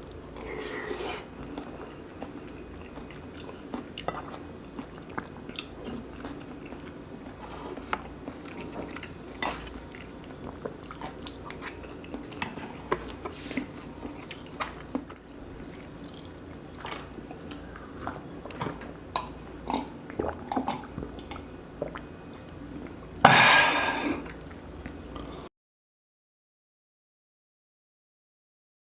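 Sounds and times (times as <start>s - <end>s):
person chewing food: 0.0s - 25.5s.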